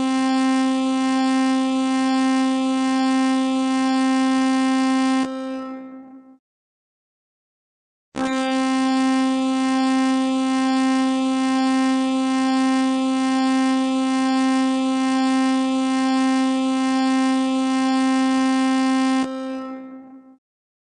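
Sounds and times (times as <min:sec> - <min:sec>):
emergency alarm tone: 0:00.0 - 0:06.4, 0:08.3 - 0:20.4.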